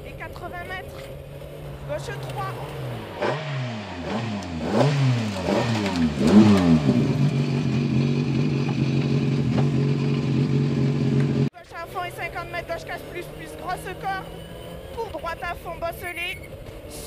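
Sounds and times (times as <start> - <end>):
rally car engine revving and idling: 0.1 - 17.0.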